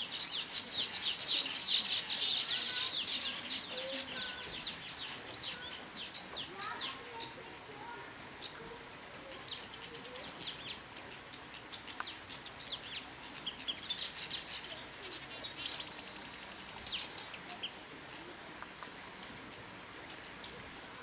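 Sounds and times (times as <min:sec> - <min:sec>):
birds chirping and twittering: 0:00.0 - 0:21.0.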